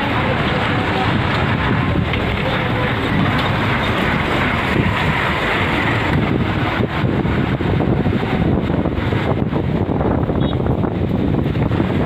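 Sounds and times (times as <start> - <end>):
moving vehicle running noise: 0.0 - 12.0
wind buffeting microphone: 0.0 - 12.0.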